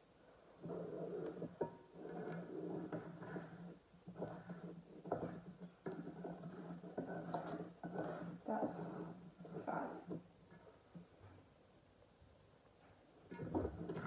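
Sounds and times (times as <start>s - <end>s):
spoon scraping dough in metal bowl: 0.5s - 11.1s, 13.3s - 14.0s.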